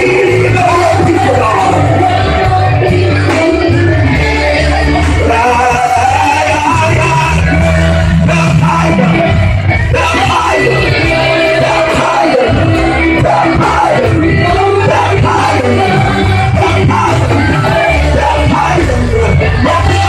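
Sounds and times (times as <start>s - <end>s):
drums: 0.0s - 20.0s
electric bass: 0.0s - 20.0s
man singing and shouting: 0.0s - 20.0s.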